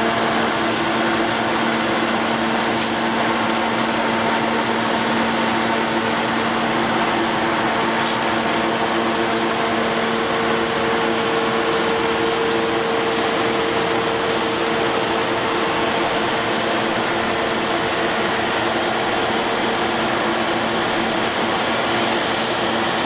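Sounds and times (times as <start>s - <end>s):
track maintenance machinery running: 0.0s - 23.0s.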